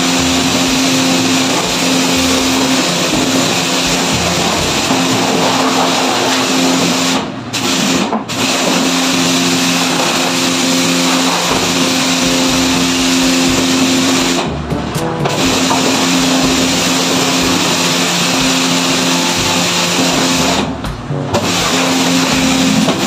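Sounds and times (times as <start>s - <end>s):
pressure washer spray hissing: 0.0s - 14.5s, 15.3s - 23.0s
pump humming: 0.0s - 23.0s.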